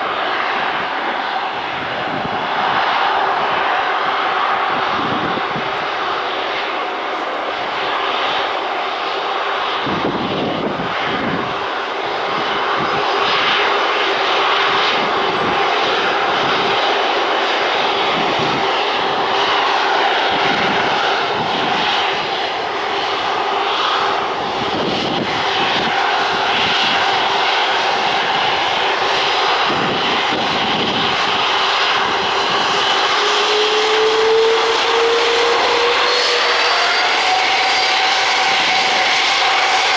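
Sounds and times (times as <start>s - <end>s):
jet engine whine: 0.0s - 39.9s
jet engines at takeoff power: 0.0s - 39.9s.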